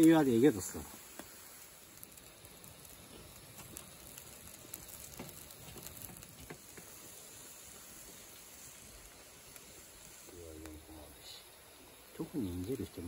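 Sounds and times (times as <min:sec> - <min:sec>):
charcoal crackles and pops: 0:00.0 - 0:13.0
food sizzling on grill: 0:00.0 - 0:13.0.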